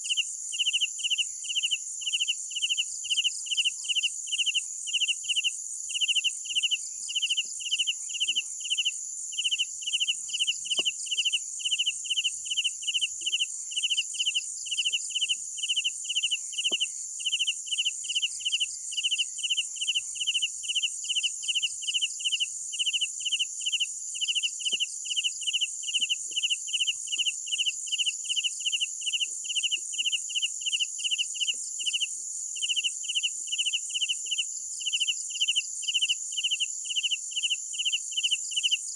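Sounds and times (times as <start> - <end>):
cricket chirping: 0.0 - 38.9
high-pitched insect trill: 0.0 - 38.9.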